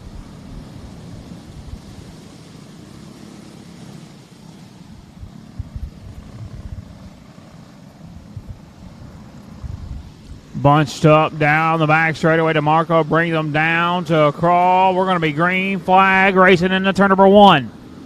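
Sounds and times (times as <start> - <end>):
kart engines droning: 0.0 - 18.0.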